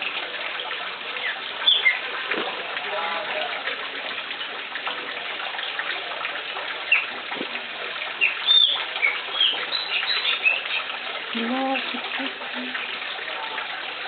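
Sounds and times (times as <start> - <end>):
birds fluttering and splashing in water: 0.0 - 14.0.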